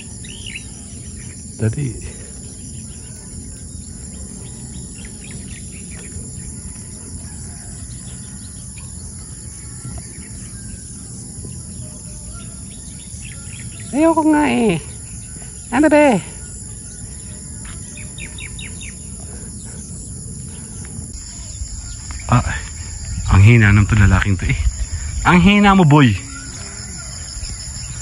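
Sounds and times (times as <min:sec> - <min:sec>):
faint bird chirps: 0:00.0 - 0:28.0
insects shrilling: 0:00.0 - 0:28.0
steady low rumble: 0:00.0 - 0:28.0.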